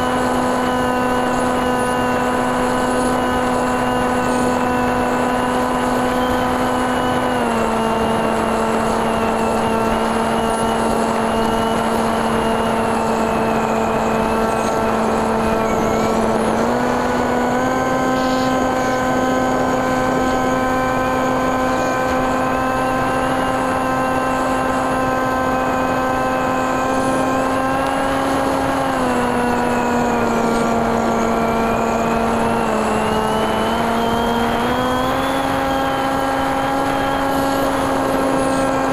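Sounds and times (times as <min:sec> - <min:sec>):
drone motors buzzing: 0:00.0 - 0:38.9.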